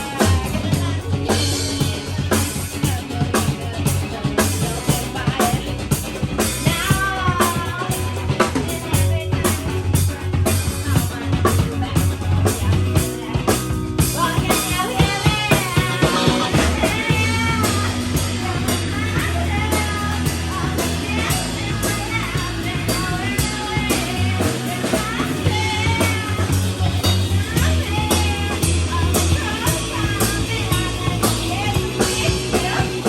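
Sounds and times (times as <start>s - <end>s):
person singing: 0.0s - 33.0s
rock music with drums and bass: 0.0s - 33.0s.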